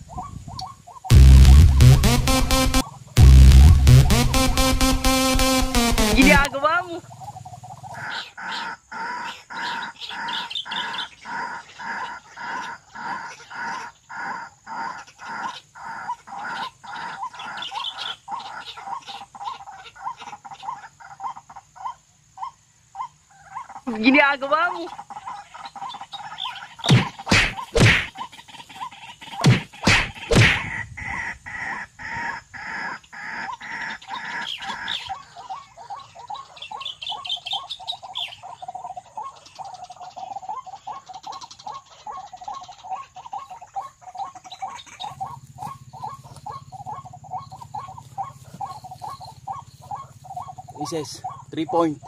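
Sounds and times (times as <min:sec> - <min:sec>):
waterhen calling: 0:03.8 - 0:52.0.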